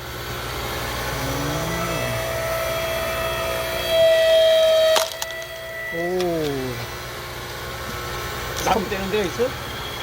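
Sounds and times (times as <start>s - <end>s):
log splitter motor whining: 0.0s - 9.3s.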